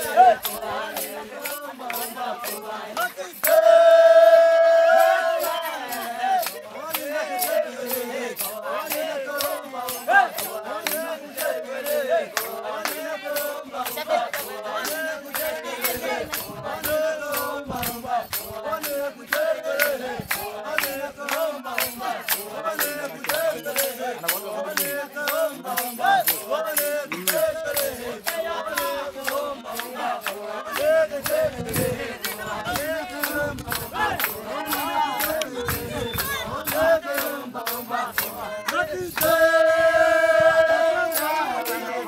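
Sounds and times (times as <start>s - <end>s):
group singing chant-like song: 0.0s - 42.0s
fast rattling beat: 4.4s - 42.0s.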